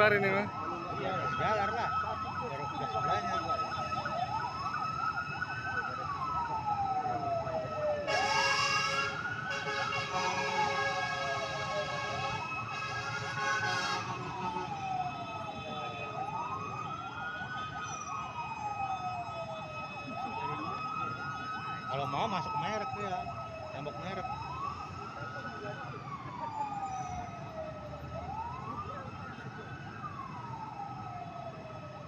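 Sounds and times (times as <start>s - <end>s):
emergency siren wailing: 0.0s - 32.0s
street traffic: 0.0s - 32.0s.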